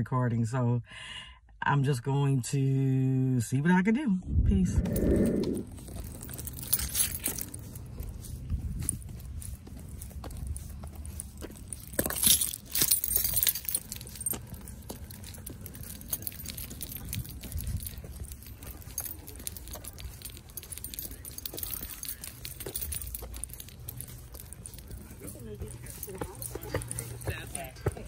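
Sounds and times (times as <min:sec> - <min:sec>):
keys jangling: 0:04.9 - 0:28.0
boot footsteps on asphalt: 0:05.4 - 0:28.0.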